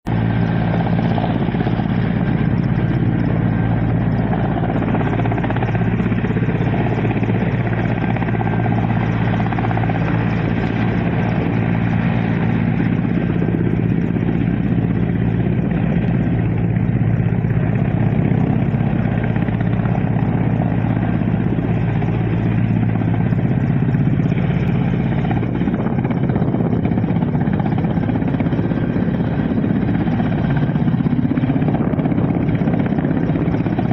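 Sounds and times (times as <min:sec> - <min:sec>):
helicopter engine and rotor: 0:00.0 - 0:33.9.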